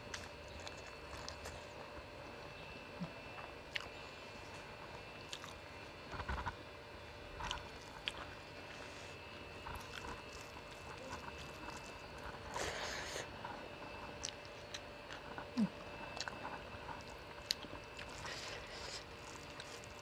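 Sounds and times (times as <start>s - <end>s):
person chewing: 0.0s - 1.9s, 2.9s - 6.6s, 7.4s - 20.0s.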